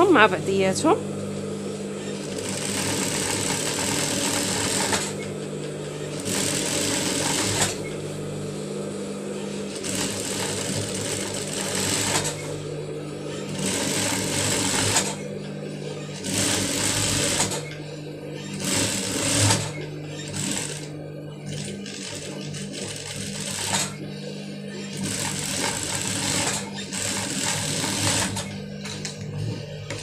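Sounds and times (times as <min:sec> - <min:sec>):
sewing machine motor humming: 0:00.0 - 0:30.0
sewing machine stitching: 0:02.0 - 0:08.0, 0:09.5 - 0:12.6, 0:13.3 - 0:15.3, 0:15.9 - 0:24.0, 0:24.7 - 0:30.0.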